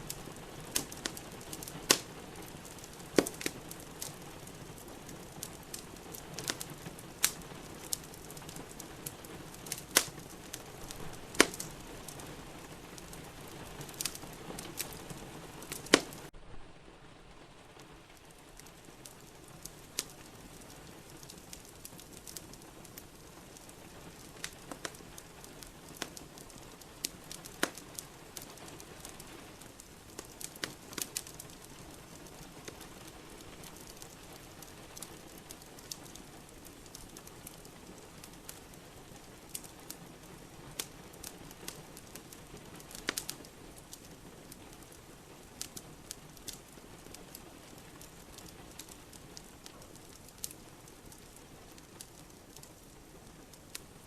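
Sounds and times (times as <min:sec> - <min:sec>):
rain hissing: 0:00.0 - 0:54.0
wood fire crackling and popping: 0:00.0 - 0:54.0.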